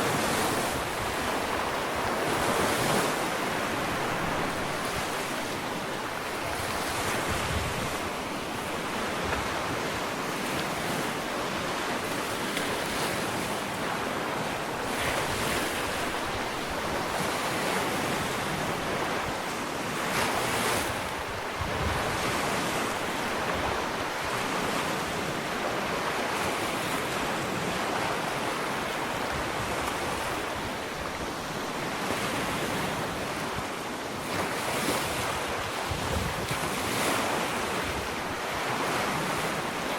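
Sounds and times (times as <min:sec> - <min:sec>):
ocean surf on beach: 0:00.0 - 0:39.9.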